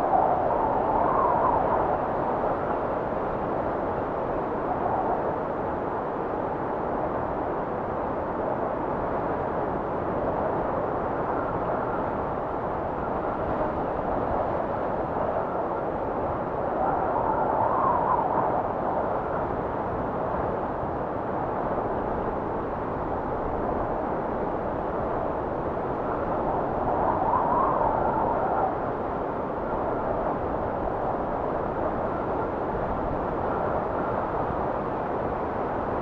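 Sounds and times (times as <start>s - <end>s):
blizzard wind gusting: 0.0s - 36.0s.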